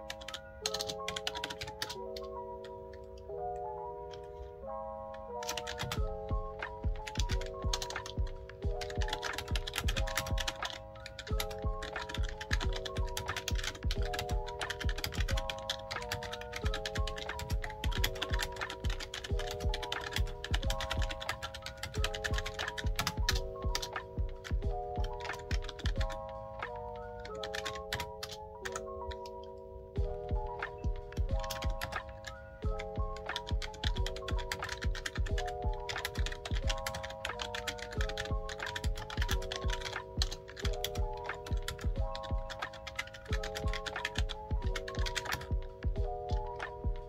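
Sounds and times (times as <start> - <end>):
fast keyboard typing: 0.0 - 4.4, 5.0 - 47.0
background music with steady beat: 0.0 - 47.0.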